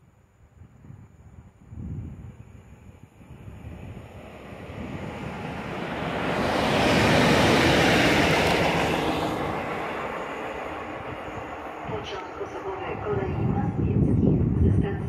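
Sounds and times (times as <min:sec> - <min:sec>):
locomotives passing on rails: 0:01.8 - 0:15.0.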